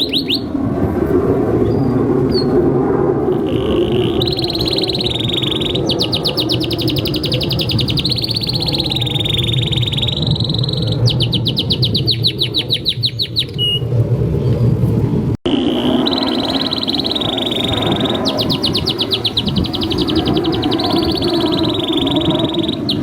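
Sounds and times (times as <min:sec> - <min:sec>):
canary singing: 0:00.0 - 0:00.5, 0:03.3 - 0:13.9, 0:15.5 - 0:23.0.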